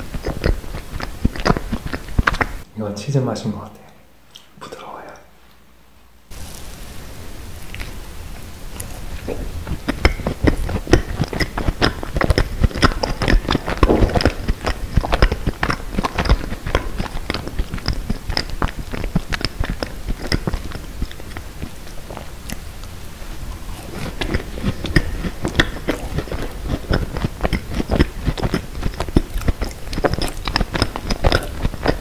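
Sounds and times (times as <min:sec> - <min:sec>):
mouth chewing clicks and smacks: 0:00.0 - 0:02.7, 0:07.6 - 0:32.0.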